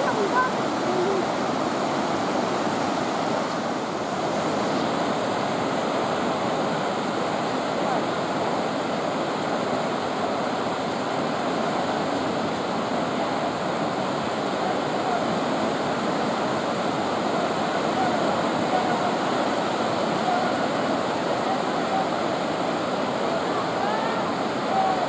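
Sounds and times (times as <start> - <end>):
river rapids rushing: 0.0 - 25.0.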